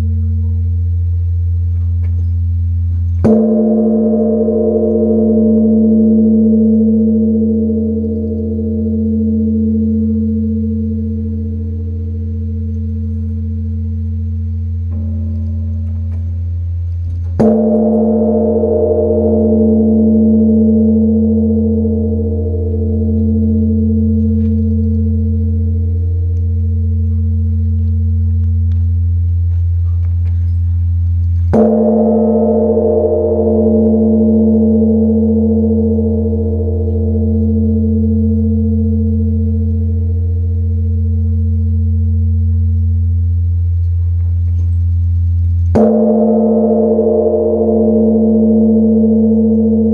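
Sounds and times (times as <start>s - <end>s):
large temple bell ringing: 3.2s - 49.9s.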